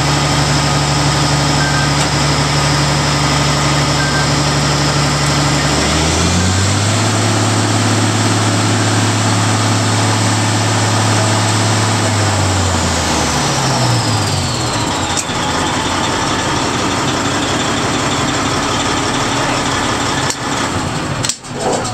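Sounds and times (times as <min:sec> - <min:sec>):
diesel engine running: 0:00.0 - 0:21.9
high turbo whine: 0:00.0 - 0:21.9.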